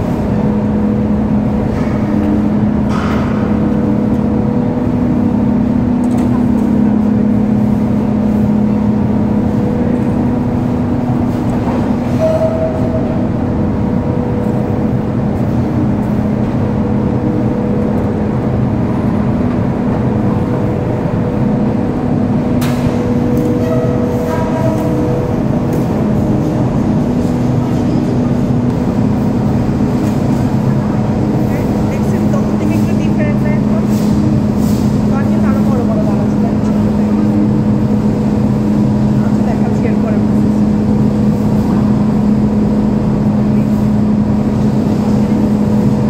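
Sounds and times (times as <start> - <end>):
machinery droning: 0.0 - 46.0.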